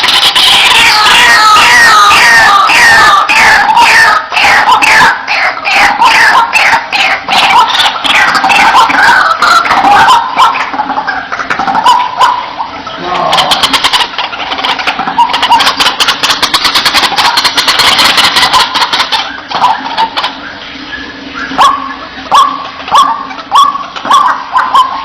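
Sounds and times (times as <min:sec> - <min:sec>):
waterhen chattering: 0:00.0 - 0:25.0
waterhen loud rising calls: 0:00.0 - 0:25.0.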